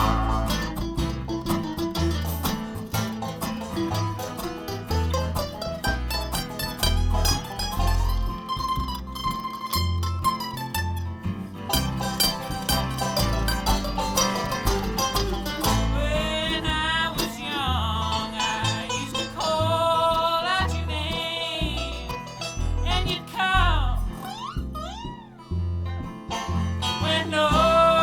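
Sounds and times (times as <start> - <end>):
bluegrass band playing: 0.0 - 28.0
sliding lead notes: 0.0 - 28.0.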